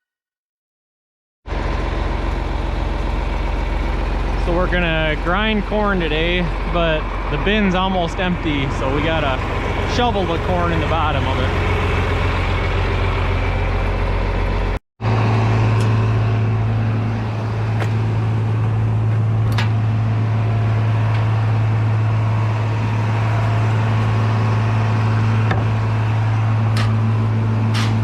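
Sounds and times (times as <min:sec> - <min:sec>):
farm machinery humming: 0:01.5 - 0:28.0.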